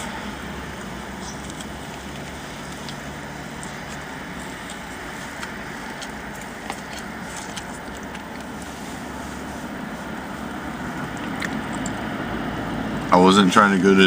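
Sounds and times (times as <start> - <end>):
car engine idling: 0.0 - 14.0
faint clicks and crinkles: 0.7 - 12.1.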